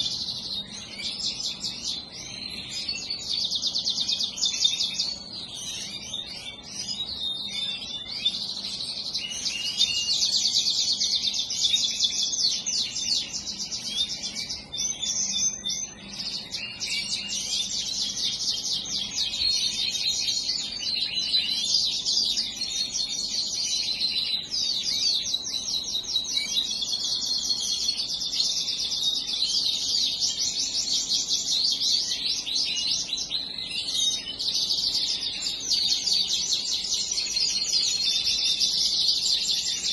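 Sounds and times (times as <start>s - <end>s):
canaries trilling and chirping: 0.0s - 39.9s.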